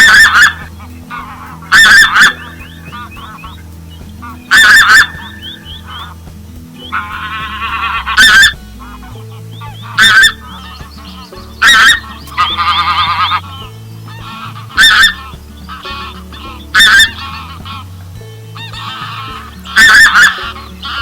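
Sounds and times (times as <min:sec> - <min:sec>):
steady low tones: 0:00.0 - 0:21.0
waterfowl honking: 0:00.0 - 0:21.0.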